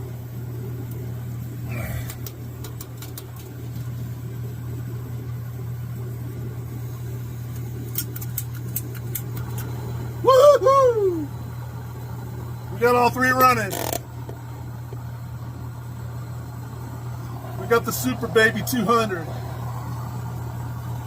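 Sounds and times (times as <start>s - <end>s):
gas burner roaring and hissing: 0.0s - 21.0s.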